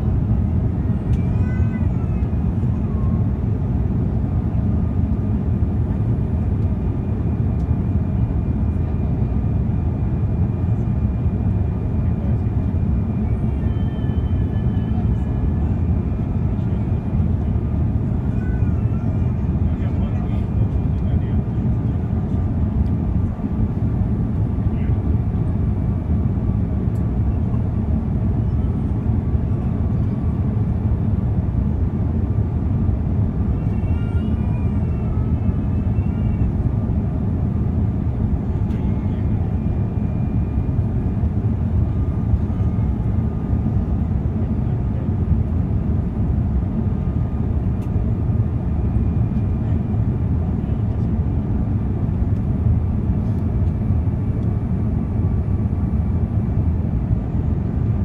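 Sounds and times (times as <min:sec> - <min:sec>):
airflow over fuselage: 0:00.0 - 0:58.0
jet engines rumbling: 0:00.0 - 0:58.0.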